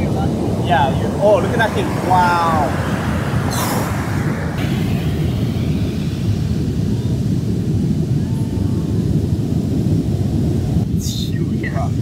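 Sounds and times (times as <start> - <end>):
surf breaking on beach: 0.0 - 10.9
wind on microphone: 0.0 - 12.0.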